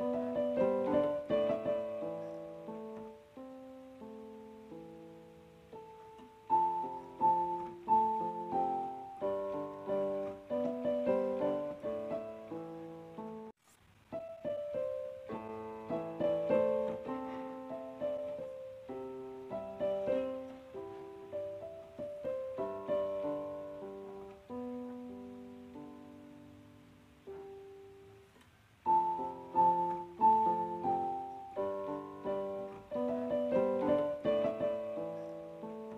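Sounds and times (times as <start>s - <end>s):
gentle piano music: 0.0s - 35.9s.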